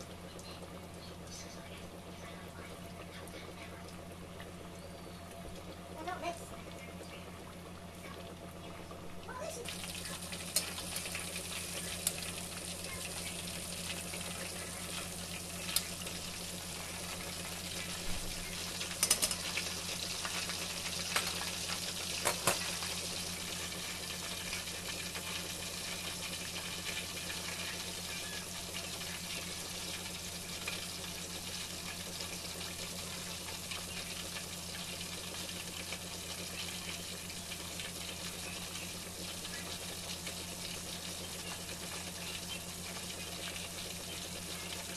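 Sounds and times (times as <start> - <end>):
steady low hum: 0.0 - 44.9
fish sizzling in hot oil: 7.6 - 44.9.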